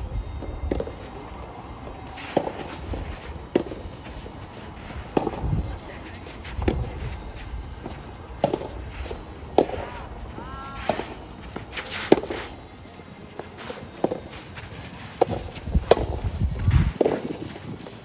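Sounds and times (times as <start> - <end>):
tennis ball struck by rackets: 0.4 - 1.0, 1.8 - 12.6, 13.4 - 17.6.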